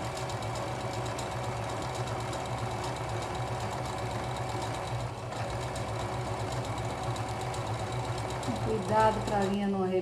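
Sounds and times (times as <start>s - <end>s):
electric sewing machine stitching: 0.0s - 10.0s.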